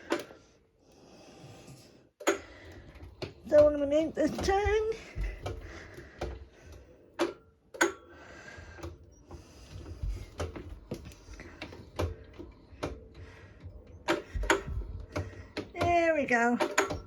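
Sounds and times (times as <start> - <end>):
wheelchair drive clicks and ticks: 0.0 - 0.6, 2.2 - 17.0
faint motor hum: 0.0 - 17.0.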